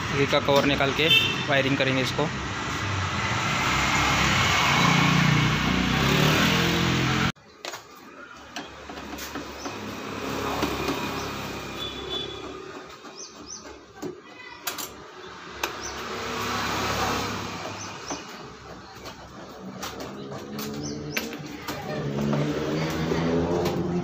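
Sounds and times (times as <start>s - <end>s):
street traffic passing: 0.0s - 24.0s.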